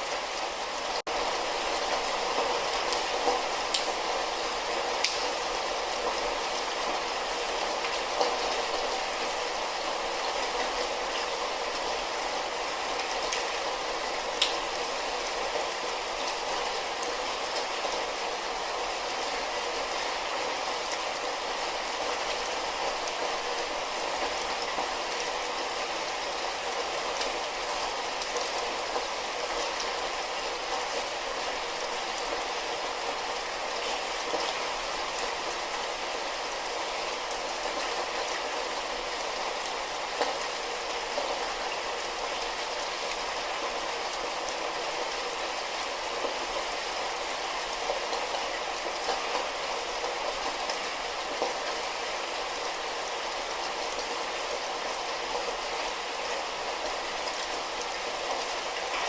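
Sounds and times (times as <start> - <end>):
light rain hissing: 0.0 - 59.0.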